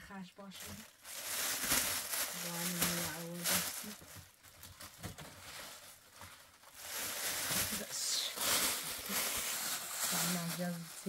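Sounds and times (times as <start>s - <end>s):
plastic bag rustling: 0.4s - 11.0s.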